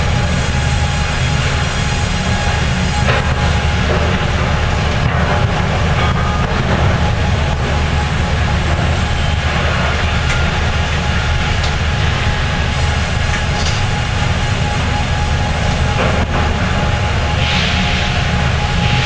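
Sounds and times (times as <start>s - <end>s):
sawmill machinery rumble: 0.0s - 19.0s.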